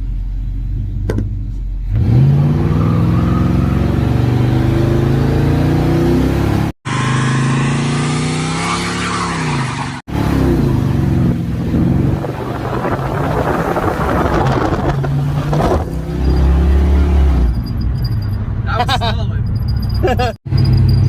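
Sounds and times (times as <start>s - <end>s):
car engine accelerating: 0.0s - 18.2s
wind and road noise: 0.0s - 21.0s.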